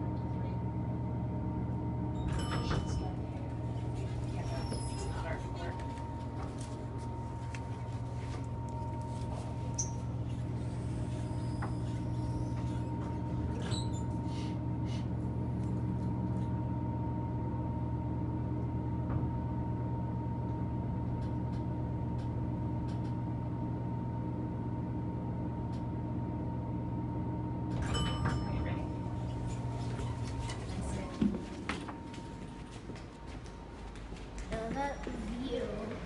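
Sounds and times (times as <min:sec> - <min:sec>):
elevator low hum: 0:00.0 - 0:36.0.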